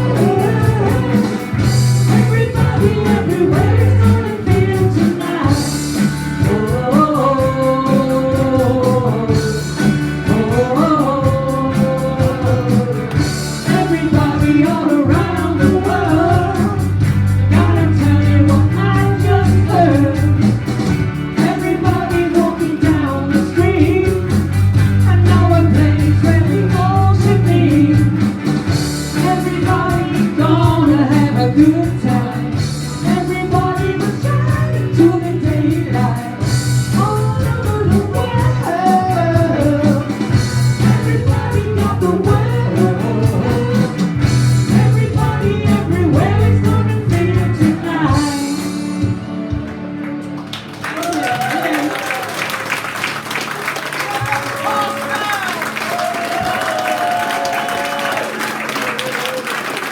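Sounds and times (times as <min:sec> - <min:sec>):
person singing: 0:00.0 - 0:49.2
bass line: 0:00.0 - 0:59.0
drums: 0:00.0 - 0:59.9
guitar: 0:00.0 - 0:59.9.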